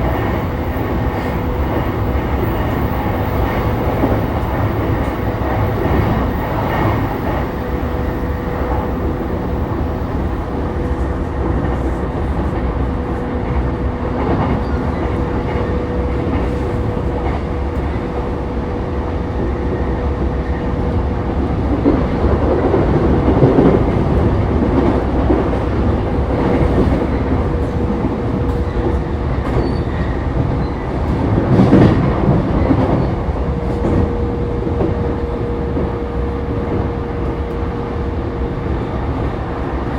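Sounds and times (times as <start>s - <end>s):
train rattling: 0.0s - 39.9s
train wheels rumbling on rail: 0.0s - 39.9s.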